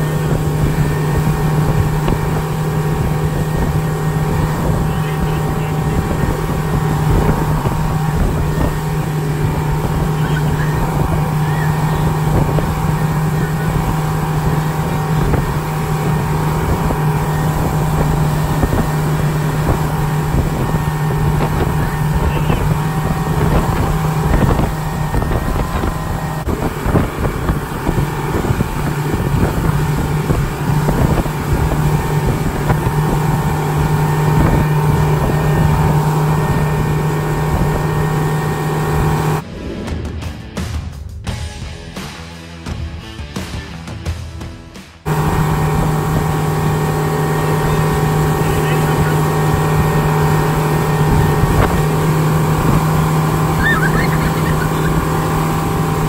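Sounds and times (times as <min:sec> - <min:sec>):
outboard motor running: 0:00.0 - 0:39.4, 0:45.0 - 0:56.0
wind buffeting microphone: 0:00.0 - 0:39.4, 0:45.1 - 0:56.0
wake rushing: 0:00.0 - 0:39.6, 0:45.1 - 0:56.0.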